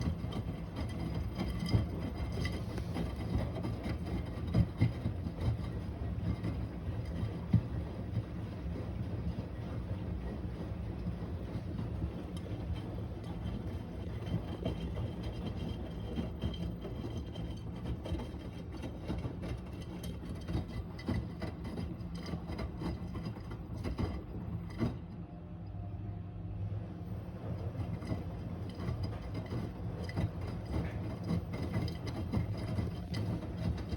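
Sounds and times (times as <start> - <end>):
washing machine motor humming: 0.0 - 33.9.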